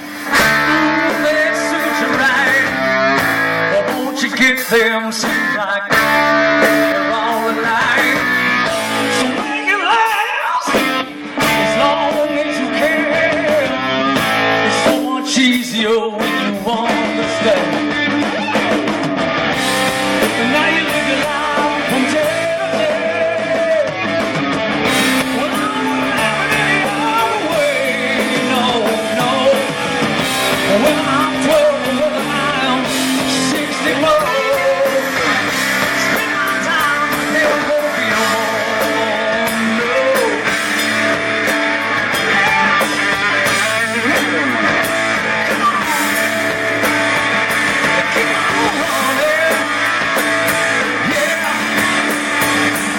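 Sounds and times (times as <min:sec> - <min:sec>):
electric guitar lead bending notes: 0:00.0 - 0:52.9
instrumental rock music: 0:00.0 - 0:52.9.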